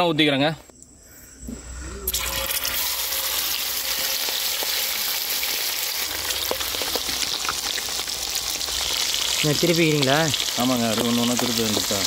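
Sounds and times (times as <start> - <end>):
fish sizzling in hot oil: 2.1 - 12.0
oil popping and crackling: 2.1 - 12.0.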